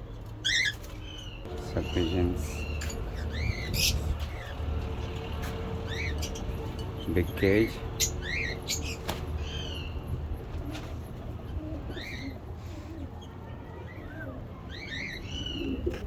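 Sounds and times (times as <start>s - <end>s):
small birds chirping: 0.0s - 16.0s
pigeons cooing: 1.4s - 13.3s, 13.9s - 16.0s.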